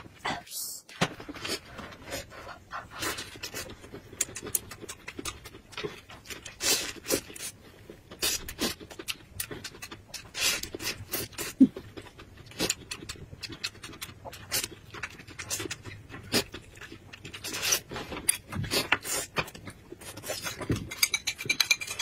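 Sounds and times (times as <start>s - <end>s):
person chewing with wet smacks: 2.9s - 21.5s.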